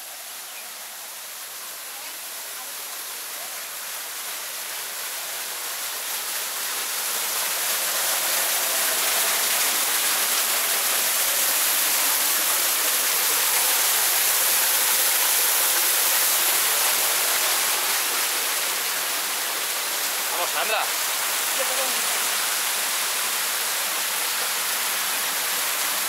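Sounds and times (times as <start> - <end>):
small waterfall splashing into pond: 0.0 - 26.0.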